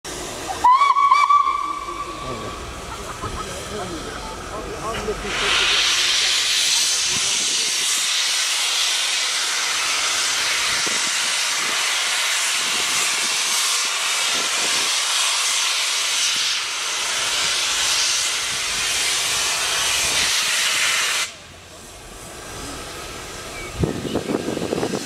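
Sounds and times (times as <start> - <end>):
steam hissing from locomotive: 0.1 - 25.0.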